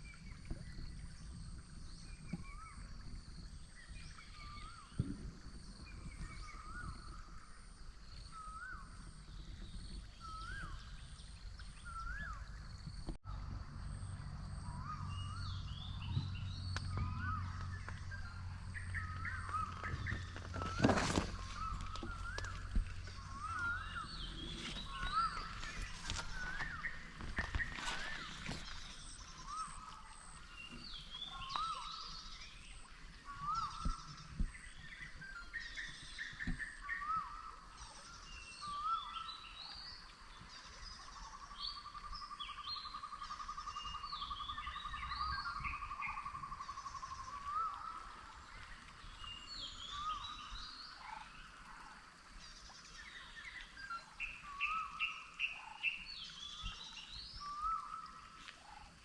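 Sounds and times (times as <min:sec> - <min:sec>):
birds whistling and chirping: 0:00.0 - 0:12.9, 0:14.6 - 0:40.0, 0:40.8 - 0:51.3, 0:52.9 - 0:58.9.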